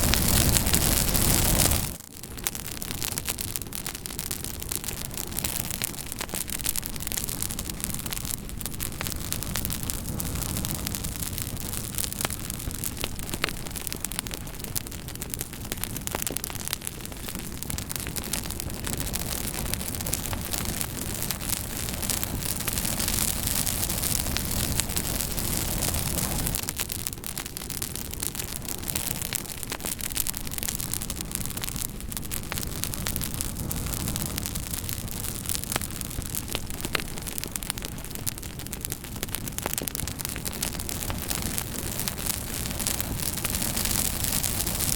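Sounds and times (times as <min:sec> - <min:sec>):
burning wood crackling and popping: 0:00.0 - 0:44.9
campfire flame hissing: 0:00.0 - 0:44.9.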